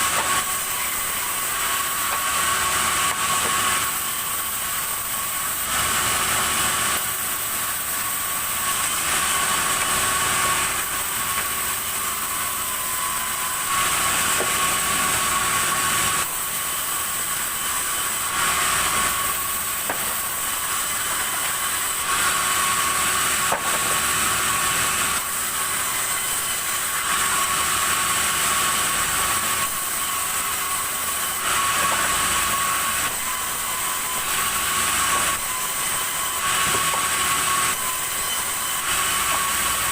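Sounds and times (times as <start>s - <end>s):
saw cutting wood whine: 0.0s - 39.9s.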